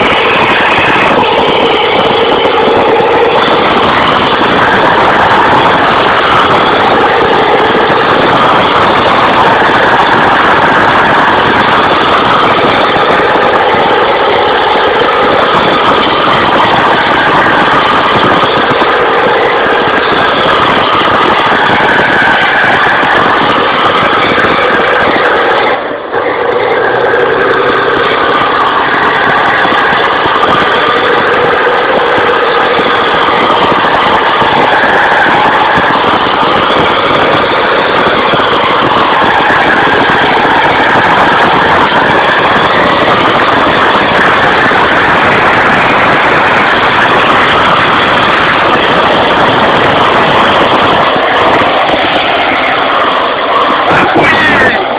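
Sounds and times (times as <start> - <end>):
tractor engine running hard: 0.0 - 54.9.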